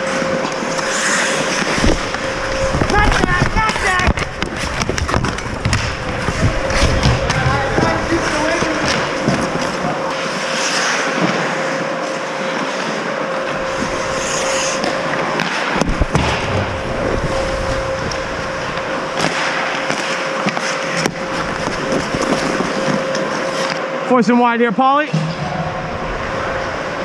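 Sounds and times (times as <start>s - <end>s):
skates scraping on ice: 0.0s - 23.8s
steady hum: 0.0s - 27.0s.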